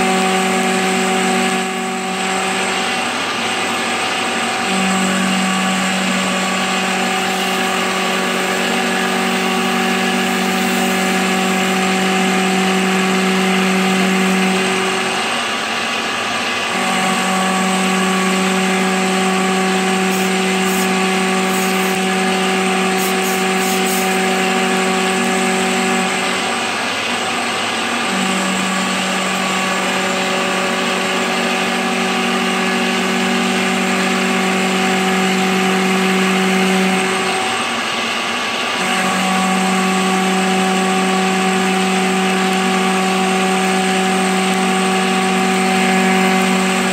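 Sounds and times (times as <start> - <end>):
milling machine cutting metal: 0.0 - 46.9.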